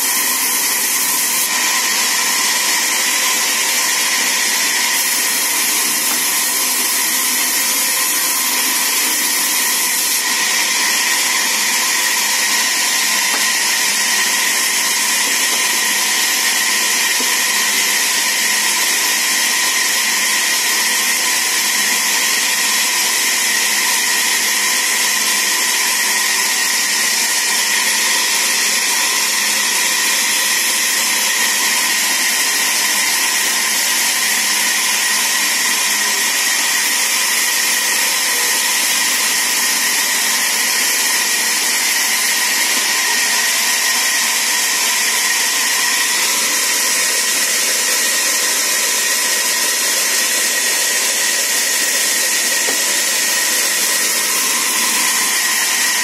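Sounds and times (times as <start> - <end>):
band saw cutting wood: 0.0 - 56.0.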